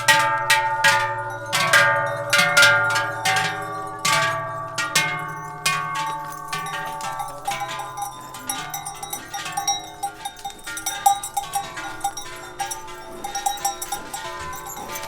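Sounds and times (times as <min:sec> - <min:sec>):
cowbells ringing: 0:00.0 - 0:15.0.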